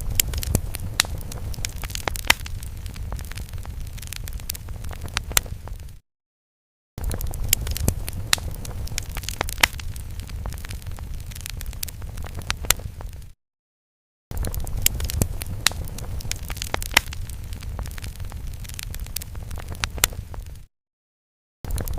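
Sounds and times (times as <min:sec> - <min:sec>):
fire crackling and popping: 0:00.0 - 0:06.0, 0:07.0 - 0:13.4, 0:14.3 - 0:20.7, 0:21.7 - 0:21.9
low fire rumble: 0:00.0 - 0:06.0, 0:07.0 - 0:13.4, 0:14.3 - 0:20.7, 0:21.7 - 0:21.9.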